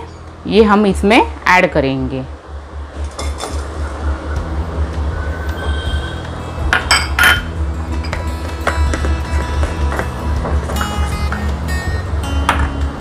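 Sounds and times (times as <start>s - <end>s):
light background music: 0.0s - 13.0s.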